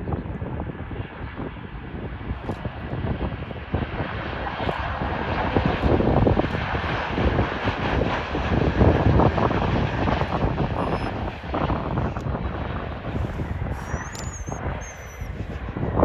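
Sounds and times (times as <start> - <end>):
wind rumbling on microphone: 0.0 - 16.0
jet engines roaring: 0.8 - 16.0.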